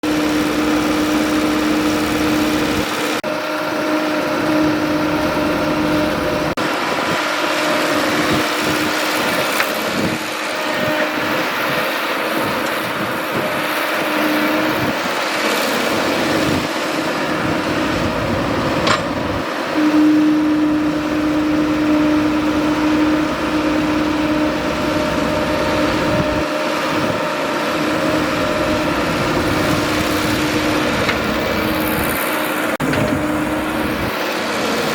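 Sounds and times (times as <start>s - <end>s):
excavator engine running: 0.0s - 34.9s
steady whine: 0.0s - 34.9s.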